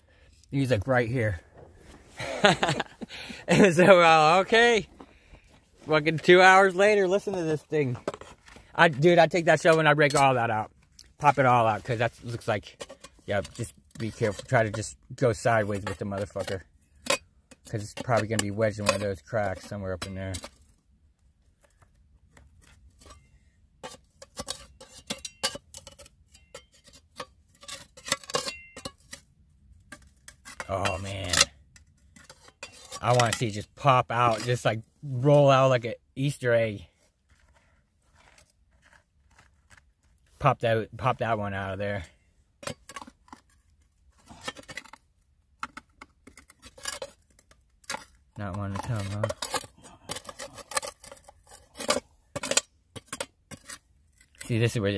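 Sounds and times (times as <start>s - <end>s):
loose rock clinking and scraping: 0.1s - 54.9s.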